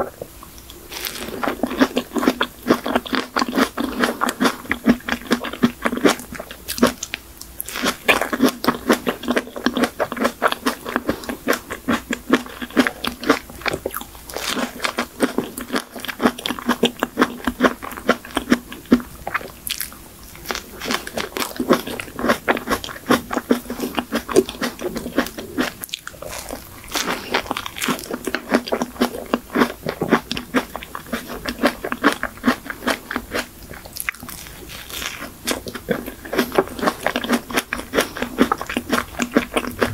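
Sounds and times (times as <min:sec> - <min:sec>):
chewing cake with mouth clicks: 0:00.0 - 0:39.9.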